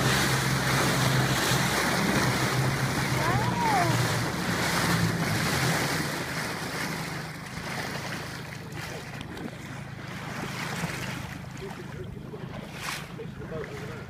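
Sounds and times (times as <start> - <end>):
choppy sea water: 0.0 - 14.0.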